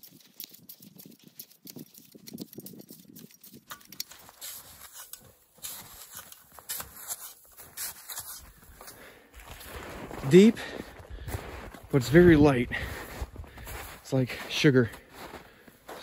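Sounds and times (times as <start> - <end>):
footsteps crunching through snow: 2.8 - 16.0.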